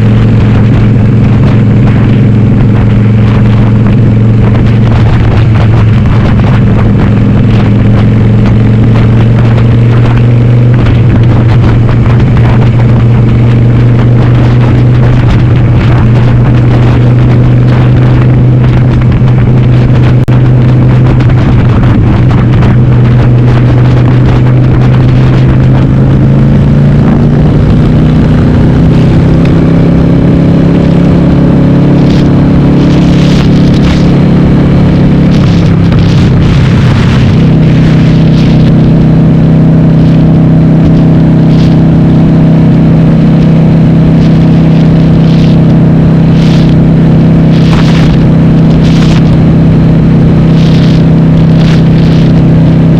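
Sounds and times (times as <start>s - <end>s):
loud motorcycle engine: 0.0s - 52.9s.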